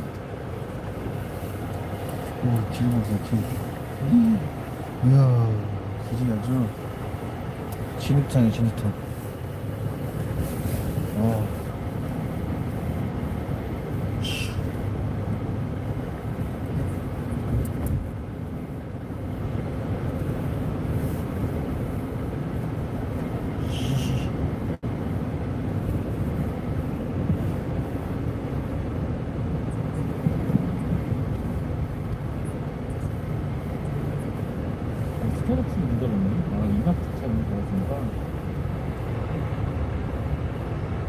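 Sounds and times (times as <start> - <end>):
car driving on slushy road: 0.0 - 41.0.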